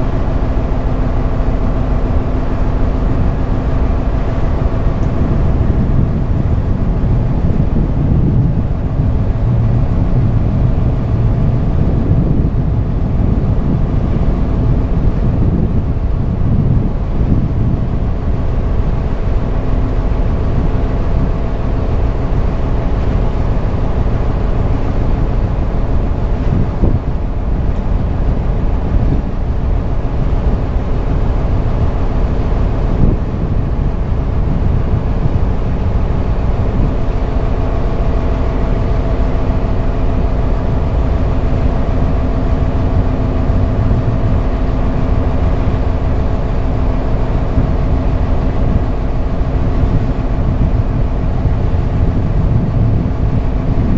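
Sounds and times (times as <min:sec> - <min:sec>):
boat engine drone: 0:00.0 - 0:53.9
water rushing past hull: 0:00.0 - 0:53.9
wind rushing: 0:00.0 - 0:53.9.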